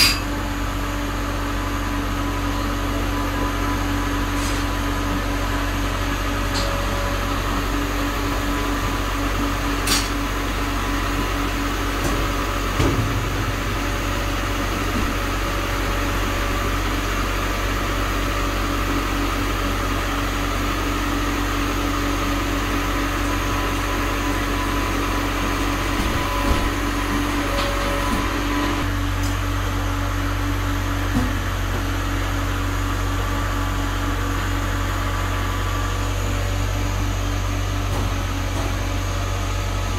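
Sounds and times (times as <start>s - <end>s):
harvester machinery humming: 0.0s - 39.9s.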